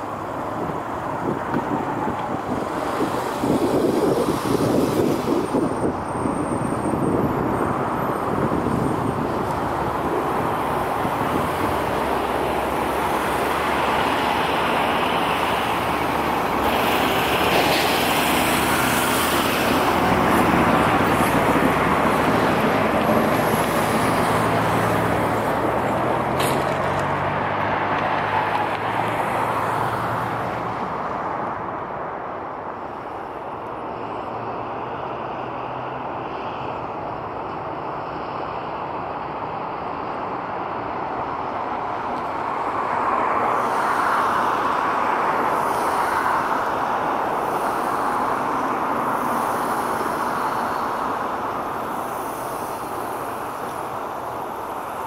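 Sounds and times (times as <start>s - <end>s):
jet engines roaring on landing: 0.0s - 55.0s.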